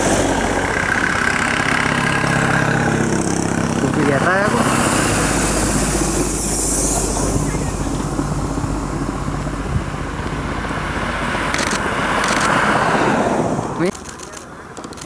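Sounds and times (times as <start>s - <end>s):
vehicle engine running: 0.0s - 12.9s
truck driving past: 0.0s - 14.0s.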